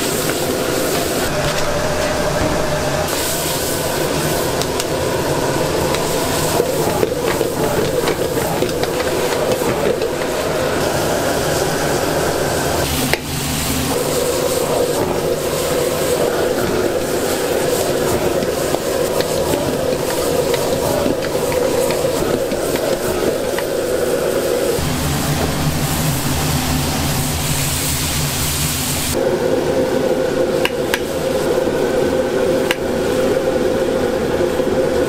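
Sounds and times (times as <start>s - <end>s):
vegetables sizzling in a wok: 0.0s - 29.2s
gas burner roar: 0.0s - 35.0s.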